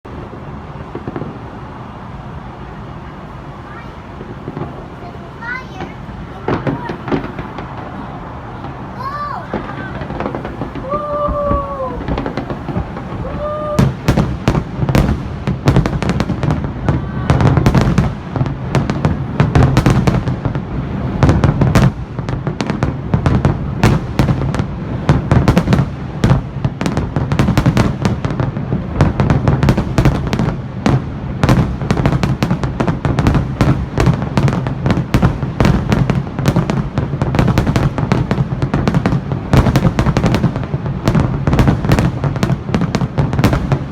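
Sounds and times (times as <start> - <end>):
continuous low rumble: 0.1 - 43.9
fireworks bangs and crackles: 0.1 - 43.9.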